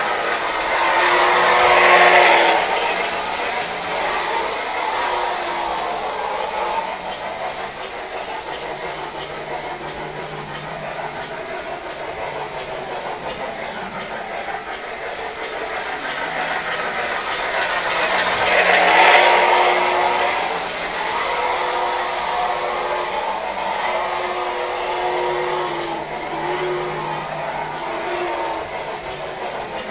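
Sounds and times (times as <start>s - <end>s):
model trains rumbling and whirring: 0.0s - 29.9s.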